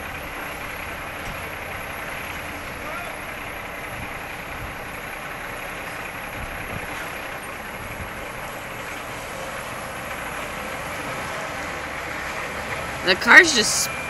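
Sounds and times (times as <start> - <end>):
distant diesel truck engine: 0.0 - 14.0.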